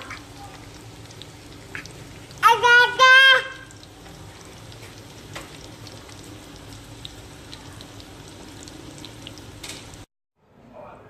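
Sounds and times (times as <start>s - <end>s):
chicken frying in hot oil: 0.0s - 10.1s.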